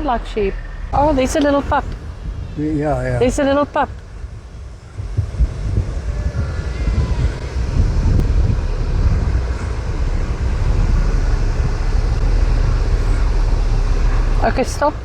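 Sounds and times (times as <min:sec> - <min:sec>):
vehicle engine rumble: 0:00.0 - 0:15.0
wind buffeting microphone: 0:00.0 - 0:15.0.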